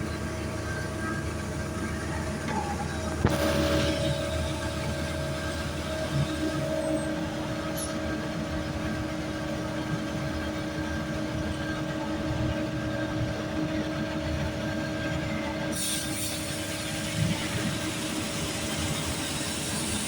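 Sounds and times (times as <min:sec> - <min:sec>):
mechanical rumble and hiss: 0:00.0 - 0:11.2, 0:14.7 - 0:20.0
sustained whine: 0:00.0 - 0:18.3.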